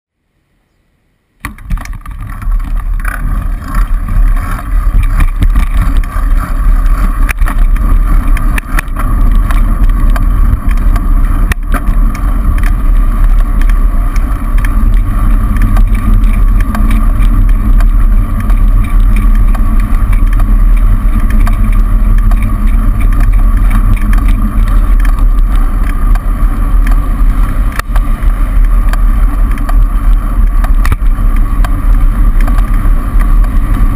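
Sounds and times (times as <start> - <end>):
bicycle road rumble: 0.1 - 33.9
cars driving alongside: 1.4 - 33.9
wind on camera: 1.4 - 33.9.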